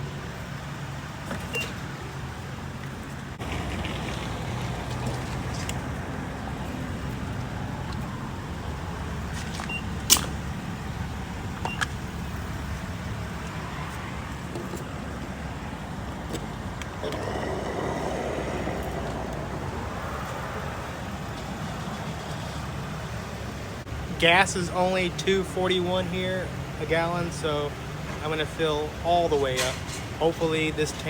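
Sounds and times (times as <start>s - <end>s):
car engine rumbling: 0.0s - 29.5s.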